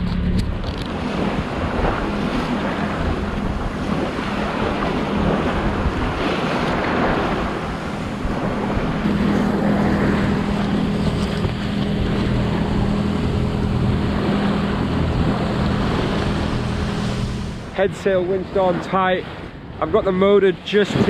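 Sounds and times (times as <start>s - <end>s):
wind on microphone: 0.0s - 20.1s
boat motor humming: 0.0s - 20.3s
waves washing: 0.0s - 21.0s.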